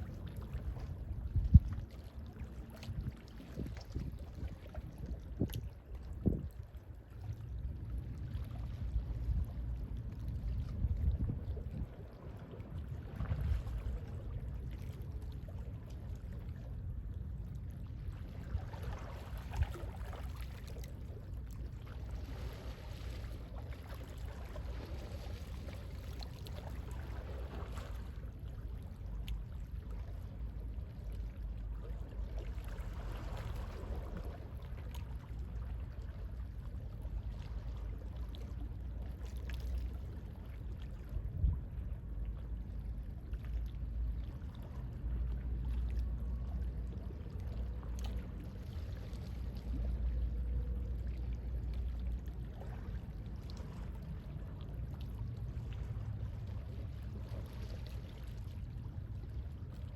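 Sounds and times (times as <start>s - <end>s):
gentle sea waves washing: 0.0s - 59.9s
sea wind rumble: 0.0s - 59.9s.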